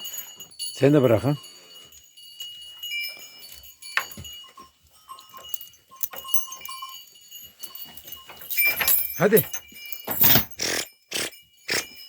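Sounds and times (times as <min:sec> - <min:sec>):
livestock bells tinkling: 0:00.0 - 0:12.0.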